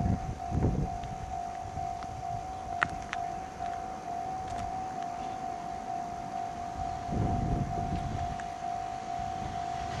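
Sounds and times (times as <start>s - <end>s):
level crossing alarm bell: 0.0s - 10.0s
low rumble: 0.0s - 10.0s.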